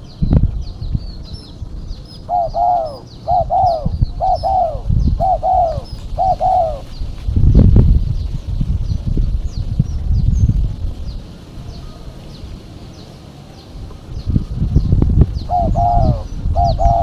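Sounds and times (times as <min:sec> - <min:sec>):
small bird chirping: 0:00.0 - 0:07.3, 0:07.9 - 0:17.0
dove calling: 0:00.0 - 0:17.0
low rumbling noise: 0:00.0 - 0:17.0.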